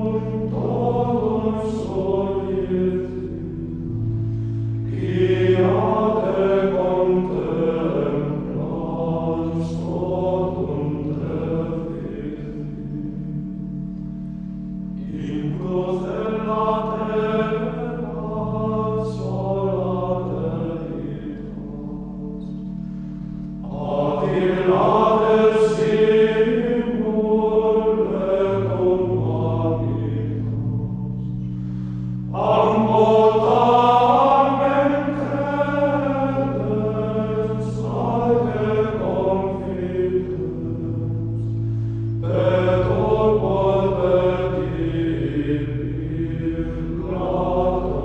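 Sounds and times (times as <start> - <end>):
devotional singing: 0.0 - 13.5, 15.0 - 48.0
sustained keyboard chords: 0.0 - 48.0.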